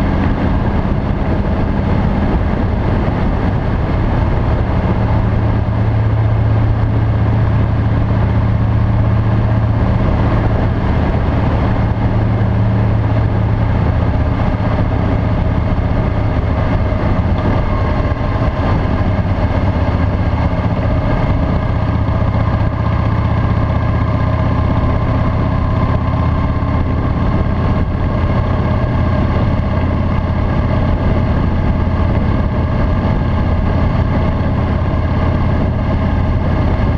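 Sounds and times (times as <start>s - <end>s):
motorcycle engine running: 0.0s - 36.9s
wind and road noise: 0.0s - 36.9s.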